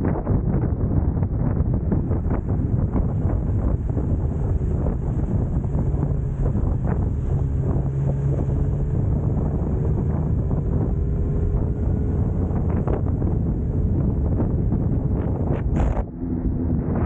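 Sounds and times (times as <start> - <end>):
wind buffeting microphone: 0.0 - 17.0
motorcycle engine running: 1.7 - 17.0.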